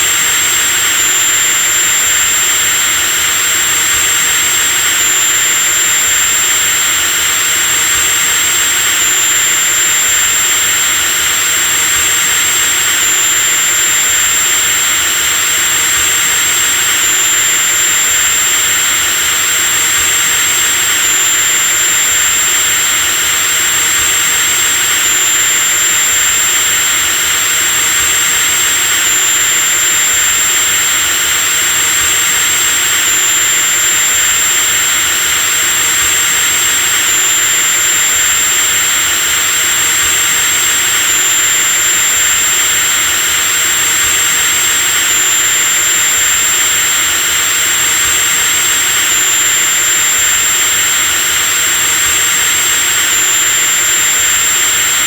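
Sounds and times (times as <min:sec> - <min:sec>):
electric drill motor whine: 0:00.0 - 0:55.0.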